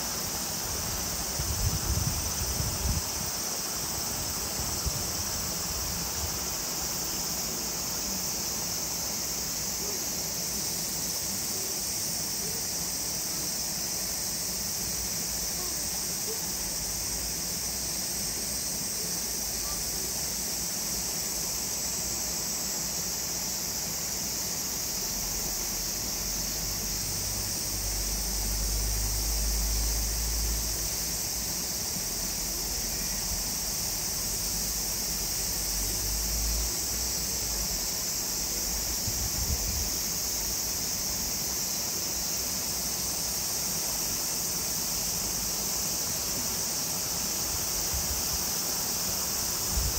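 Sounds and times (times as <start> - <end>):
high-pitched insect chorus: 0.0 - 49.9.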